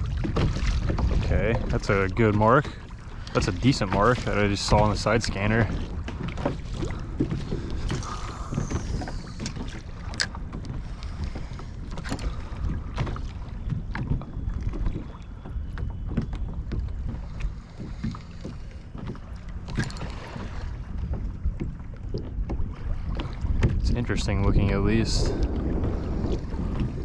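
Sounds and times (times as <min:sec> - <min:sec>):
light knocks and splashes: 0:00.0 - 0:27.0
water lapping against kayak hull: 0:00.0 - 0:27.0
wind buffeting microphone: 0:00.0 - 0:27.0.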